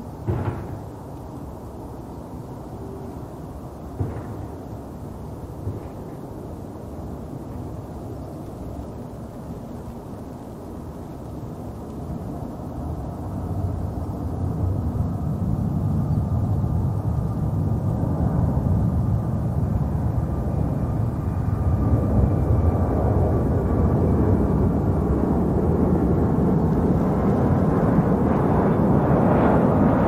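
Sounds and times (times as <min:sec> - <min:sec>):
faint steady whine: 0:00.0 - 0:30.0
jet engines rumbling: 0:00.0 - 0:30.0.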